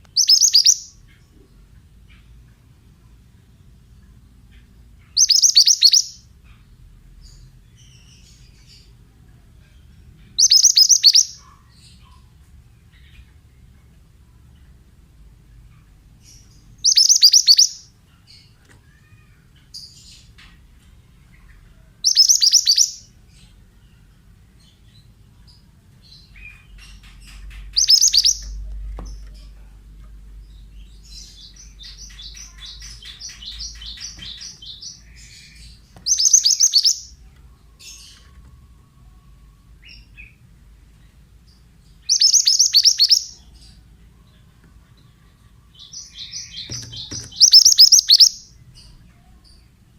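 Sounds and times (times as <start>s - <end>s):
songbird chirping: 0.0s - 49.9s.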